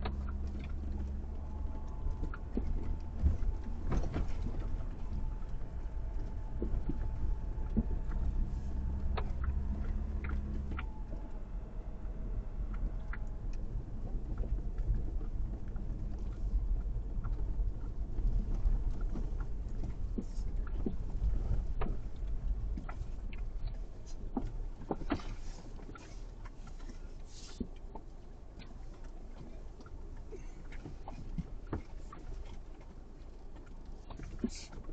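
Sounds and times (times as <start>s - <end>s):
faint engine hum: 0.0s - 34.9s
vehicle rumbling on rough road: 0.0s - 34.9s.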